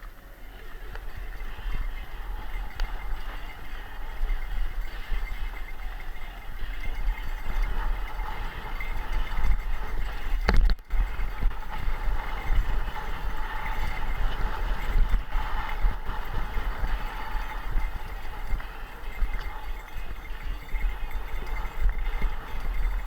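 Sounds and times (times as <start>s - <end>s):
wind rumbling on microphone: 0.5s - 23.0s.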